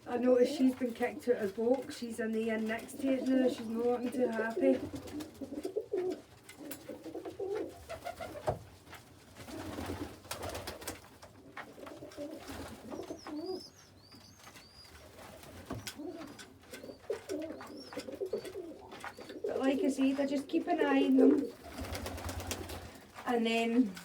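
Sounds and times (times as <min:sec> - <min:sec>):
pigeons cooing: 0:02.6 - 0:08.6, 0:09.4 - 0:23.1.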